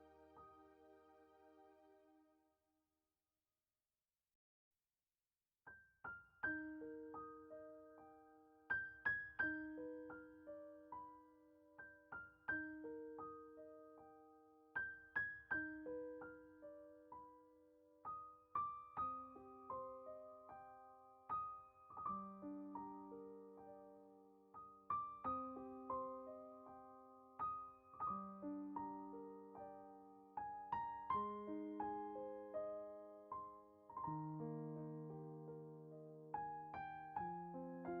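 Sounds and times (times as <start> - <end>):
slow piano music: 0.0 - 2.4, 5.7 - 38.0.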